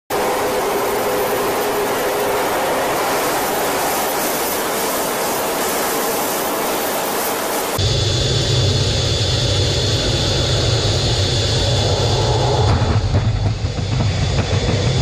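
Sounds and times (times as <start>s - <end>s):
jet engine and airflow rush: 0.1s - 15.0s.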